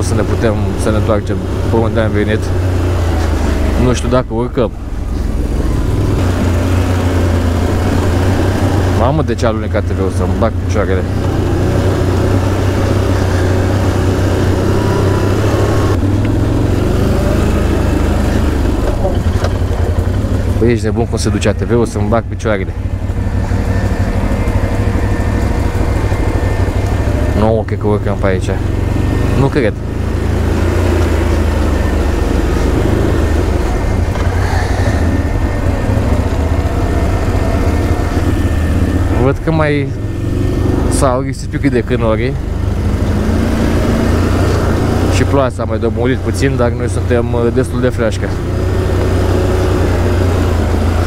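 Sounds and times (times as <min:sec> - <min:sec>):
atv engine rumbling: 0:00.0 - 0:51.0
terrain noise: 0:00.0 - 0:51.0.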